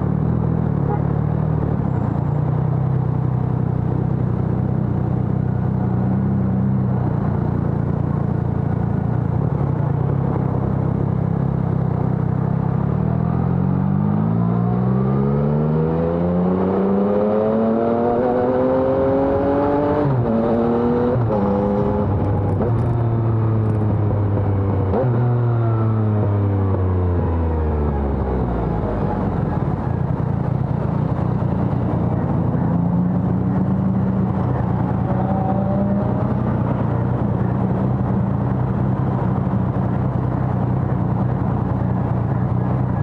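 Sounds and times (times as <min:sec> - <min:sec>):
motorcycle engine accelerating: 0:02.8 - 0:43.0.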